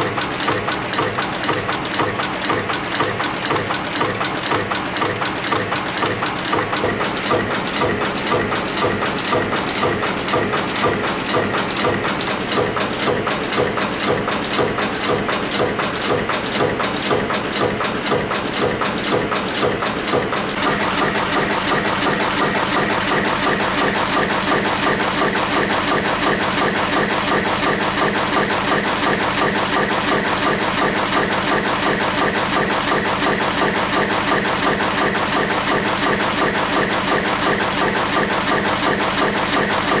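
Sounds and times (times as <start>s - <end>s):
spring forming machine clattering: 0.0s - 40.0s.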